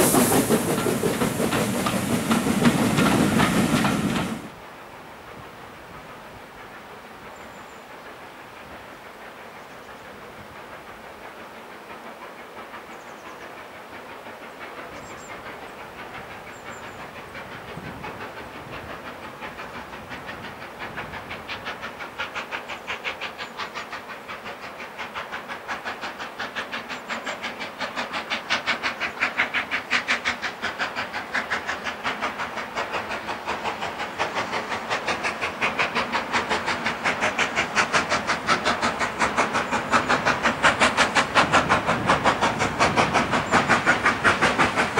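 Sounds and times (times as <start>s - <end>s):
steam hissing: 0.0s - 44.9s
steam locomotive exhaust beats: 0.0s - 44.9s.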